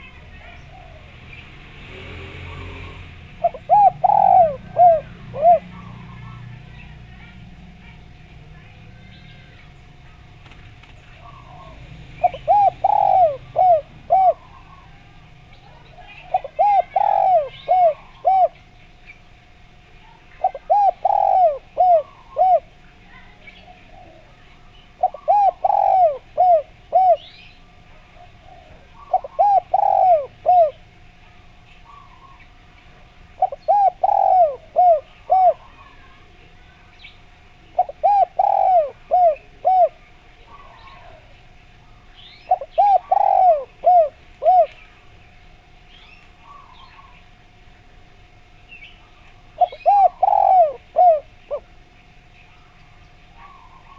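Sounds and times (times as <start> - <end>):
dove cooing: 0.0 - 48.2, 48.9 - 53.9
small birds chirping: 0.0 - 53.9.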